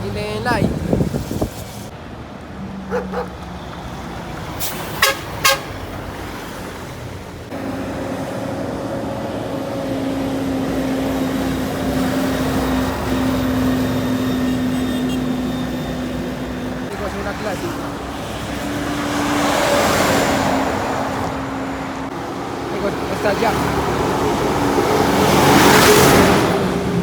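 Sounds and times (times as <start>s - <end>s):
truck engine drone: 1.0s - 27.0s.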